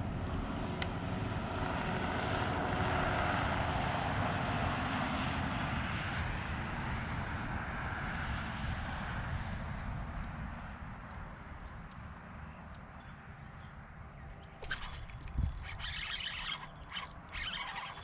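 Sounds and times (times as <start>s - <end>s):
distant engine drone passing: 0.0s - 18.0s.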